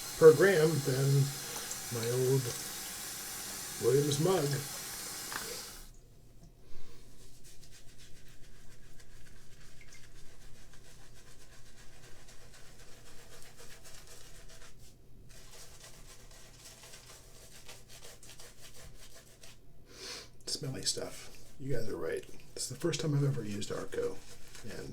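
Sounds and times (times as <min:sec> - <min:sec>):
shaving brush rubbing soap: 0:00.0 - 0:05.9, 0:07.2 - 0:19.7, 0:20.8 - 0:24.9.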